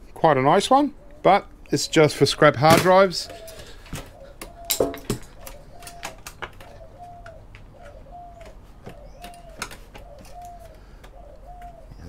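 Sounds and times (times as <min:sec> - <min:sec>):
bird calling: 0:00.4 - 0:12.0.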